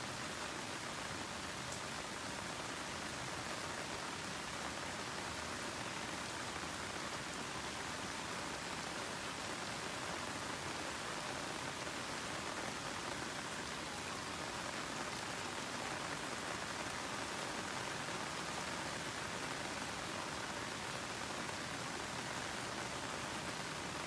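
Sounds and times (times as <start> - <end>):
rain on garden plants: 0.0 - 24.0.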